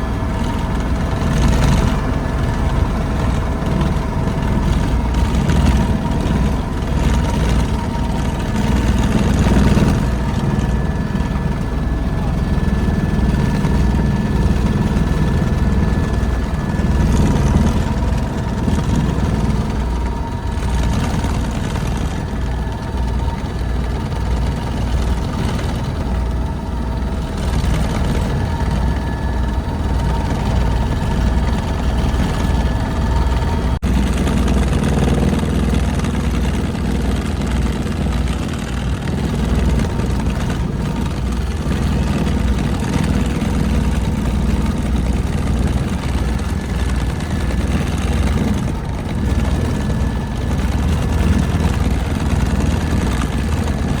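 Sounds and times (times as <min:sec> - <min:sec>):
helicopter rotor beat: 0:00.0 - 0:54.0
helicopter whine: 0:00.0 - 0:54.0.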